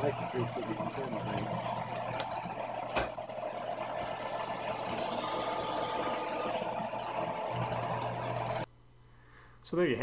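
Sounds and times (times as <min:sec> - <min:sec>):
cnc router whine: 0:00.0 - 0:08.7
low hum: 0:00.0 - 0:09.4.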